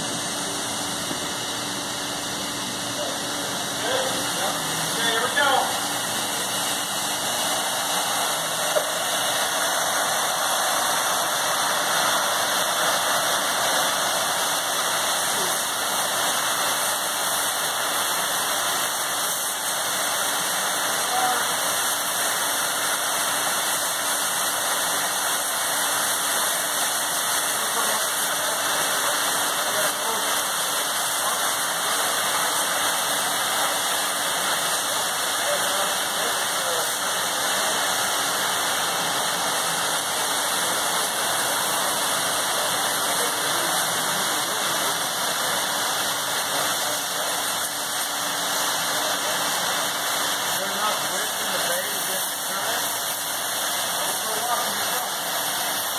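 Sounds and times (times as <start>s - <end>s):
compressed air hissing: 3.0s - 45.7s, 50.0s - 55.9s.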